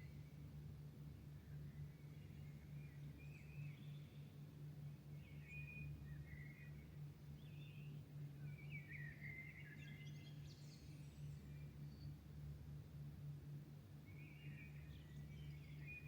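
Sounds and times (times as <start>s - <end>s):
songbirds singing: 0.0s - 16.0s
steady low hum: 0.0s - 16.0s.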